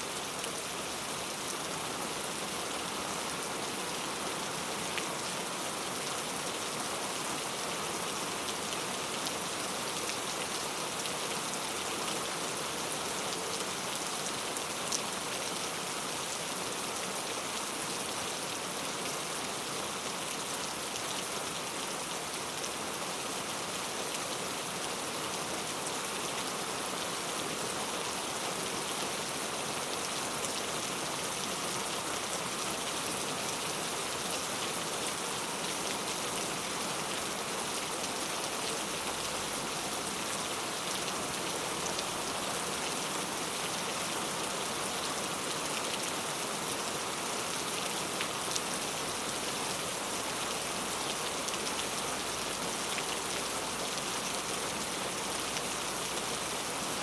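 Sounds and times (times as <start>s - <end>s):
heavy rain on hard surfaces: 0.0s - 57.0s.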